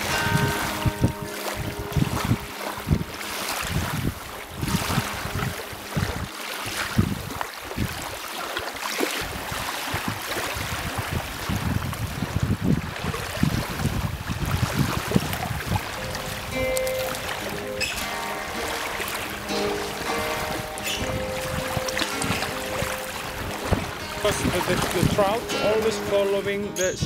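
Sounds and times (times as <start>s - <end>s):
small waves lapping on shore: 0.0s - 27.0s
wind buffeting microphone: 0.0s - 27.0s.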